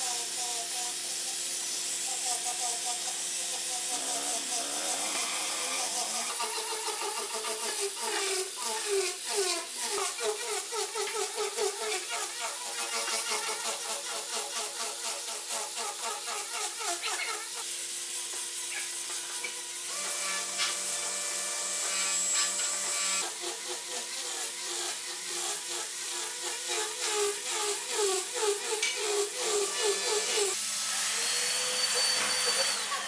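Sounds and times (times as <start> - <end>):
angle grinder sanding wood: 0.0 - 33.0.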